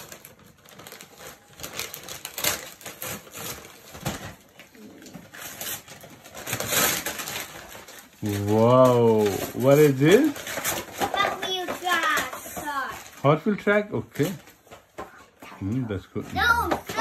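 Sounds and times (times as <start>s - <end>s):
wrapping paper tearing and crackling: 0.0s - 17.0s.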